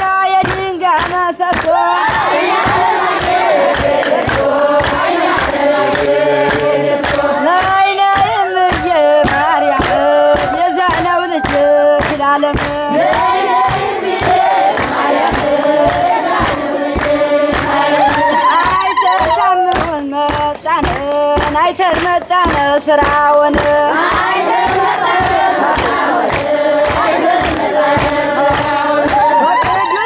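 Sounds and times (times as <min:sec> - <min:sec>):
rhythmic handclapping: 0:00.0 - 0:30.0
crowd singing religious chant: 0:00.8 - 0:30.0.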